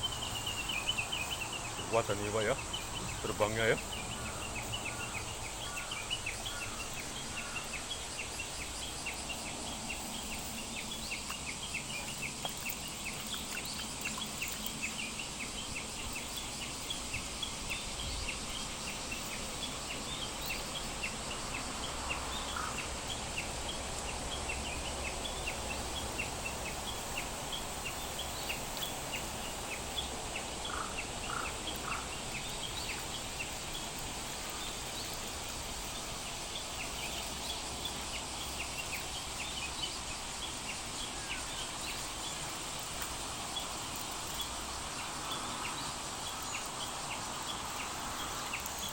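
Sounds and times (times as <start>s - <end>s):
steady high hiss: 0.0s - 48.9s.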